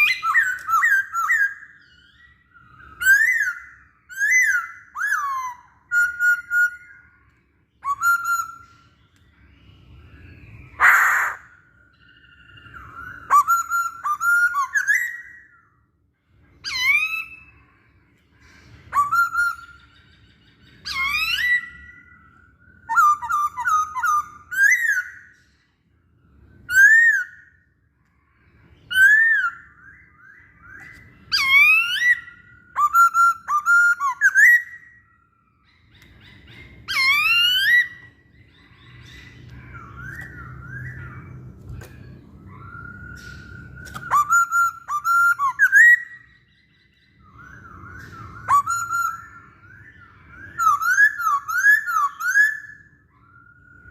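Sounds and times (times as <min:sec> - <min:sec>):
bird whistled song: 0:00.0 - 0:53.9.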